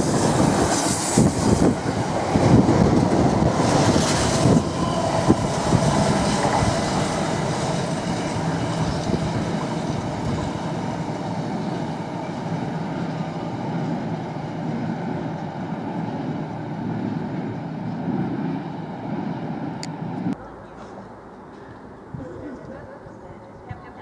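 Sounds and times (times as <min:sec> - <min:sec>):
train wheel and rail noise: 0:00.0 - 0:24.0.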